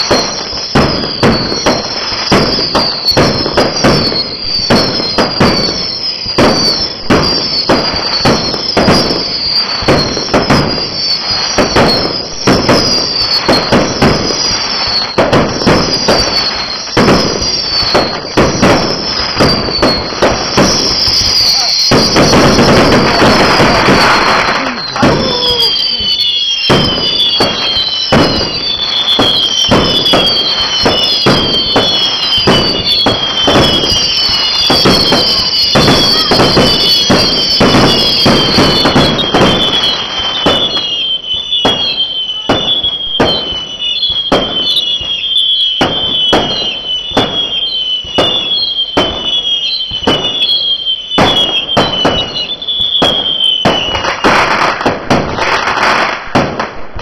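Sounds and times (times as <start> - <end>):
falling firework whistle: 0.0 - 57.0
fireworks bangs and crackles: 0.0 - 57.0.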